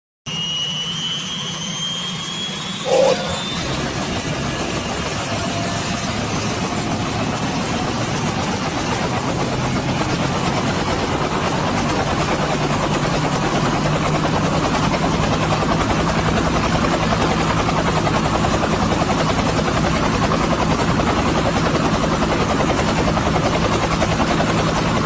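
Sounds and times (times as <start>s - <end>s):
helicopter starting up: 0.4s - 25.0s.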